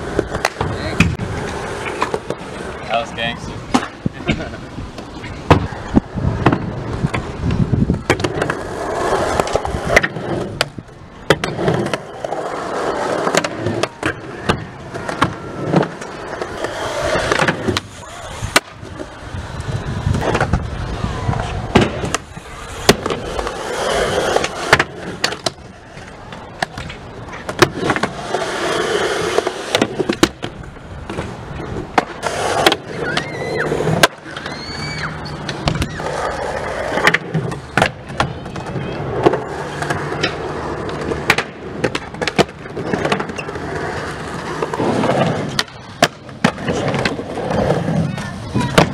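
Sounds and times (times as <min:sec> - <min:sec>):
skateboard wheels rumbling on concrete: 0:00.0 - 0:48.9
skateboards clacking on ground: 0:00.0 - 0:48.9.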